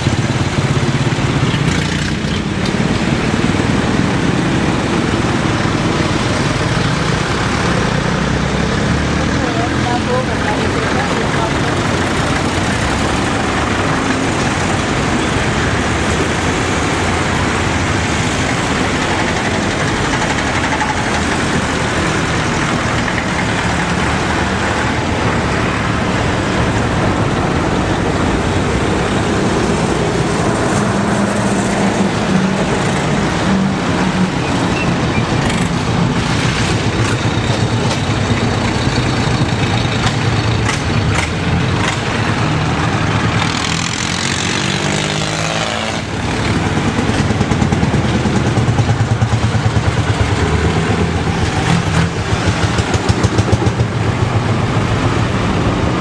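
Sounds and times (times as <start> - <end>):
tractor engines running: 0.0 - 56.0.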